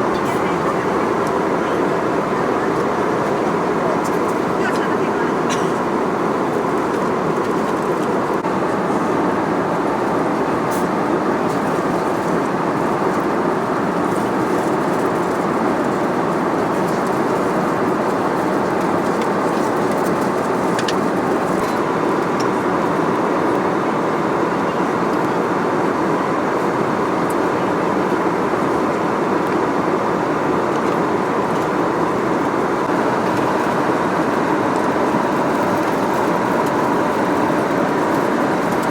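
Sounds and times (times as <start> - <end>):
roar of airflow and engines: 0.0 - 38.9.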